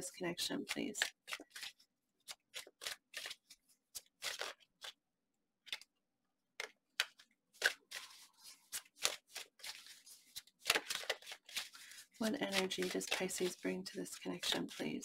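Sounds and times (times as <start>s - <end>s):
cards being shuffled: 0.6s - 5.0s, 5.6s - 5.9s, 6.6s - 15.0s.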